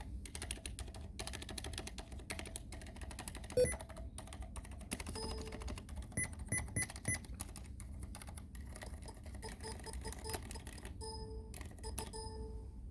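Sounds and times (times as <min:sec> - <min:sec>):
muted keyboard typing: 0:00.0 - 0:12.4.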